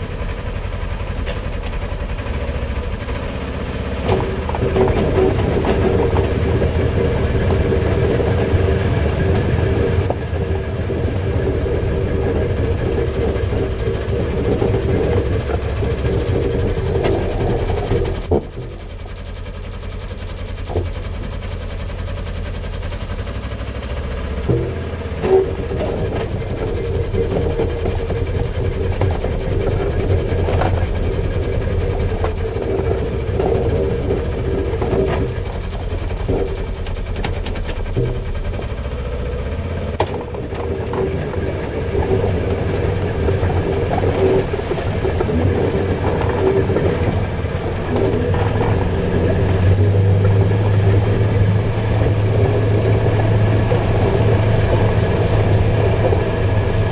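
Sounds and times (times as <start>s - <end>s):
chassis rattles and knocks: 0.0s - 56.9s
vehicle engine running: 0.0s - 56.9s.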